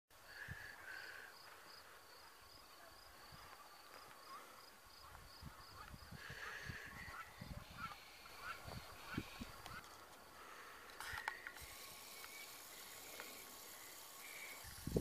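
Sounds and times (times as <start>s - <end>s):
faint cricket chirping: 0.1s - 15.0s.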